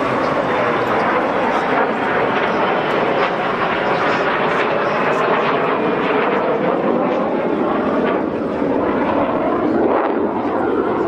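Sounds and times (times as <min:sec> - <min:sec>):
jet engines flying past: 0:00.0 - 0:11.0.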